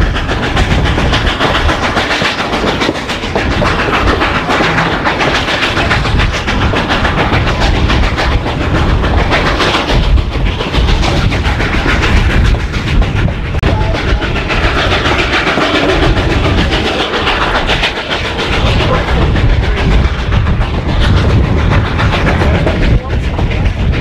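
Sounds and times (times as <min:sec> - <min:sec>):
train cars rumbling: 0:00.0 - 0:24.0
wheels clacking over rail joints: 0:00.0 - 0:24.0.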